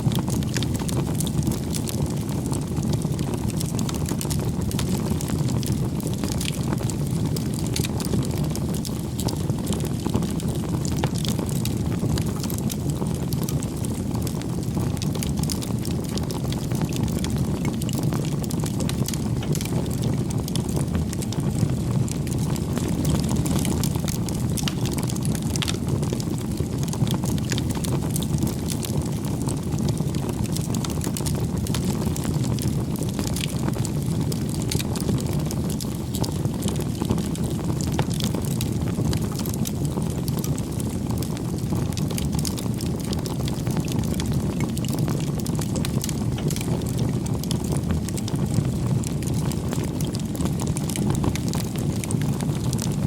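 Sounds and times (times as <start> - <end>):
campfire flames rushing: 0.0 - 53.0
wood crackling and popping: 0.0 - 53.0.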